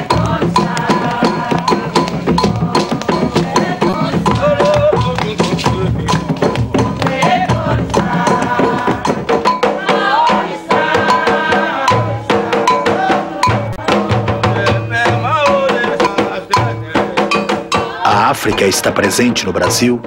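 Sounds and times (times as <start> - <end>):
drums and percussion: 0.0 - 20.0
voices singing a chant: 0.0 - 20.0.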